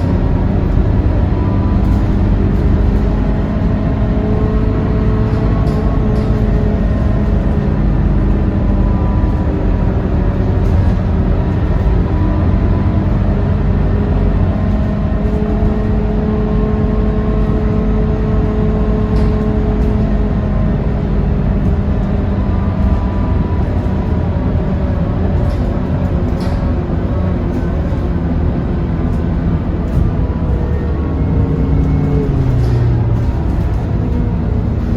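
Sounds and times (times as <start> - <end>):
bus diesel engine running: 0.0 - 34.9
road rumble: 0.0 - 34.9.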